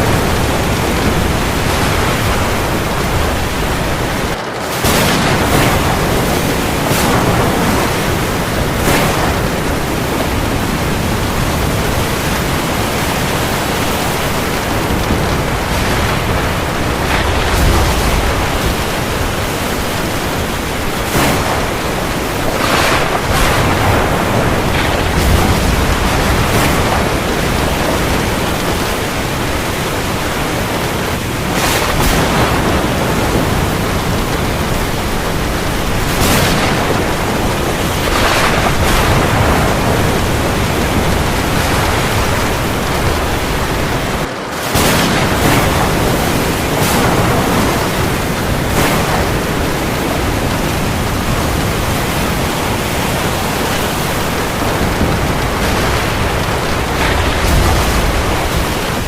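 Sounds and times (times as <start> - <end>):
heavy rain on the sea: 0.0 - 59.0.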